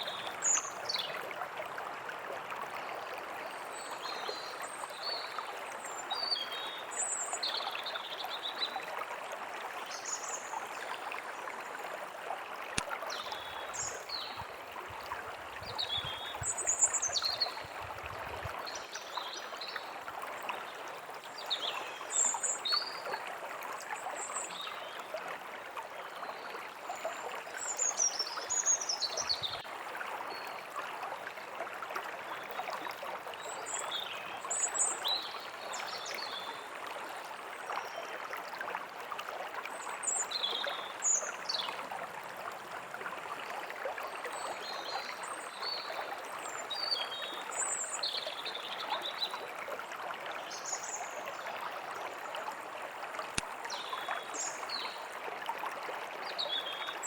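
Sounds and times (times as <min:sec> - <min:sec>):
rushing stream: 0:00.0 - 0:57.0.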